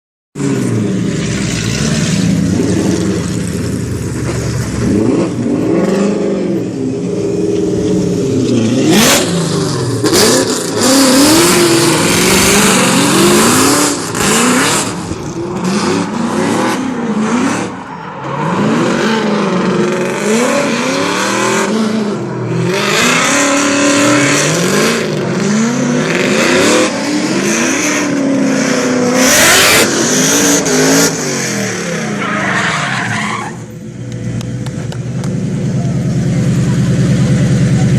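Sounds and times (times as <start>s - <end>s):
car engine revving: 0.4s - 37.9s
tyres skidding: 0.4s - 37.9s.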